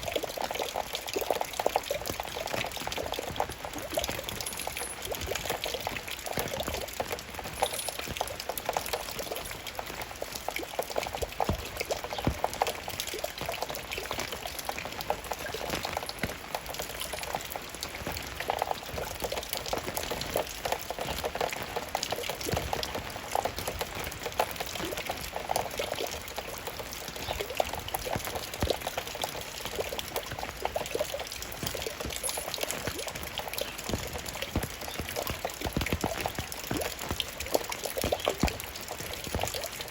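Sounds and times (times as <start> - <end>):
raindrops splashing: 0.0 - 39.9.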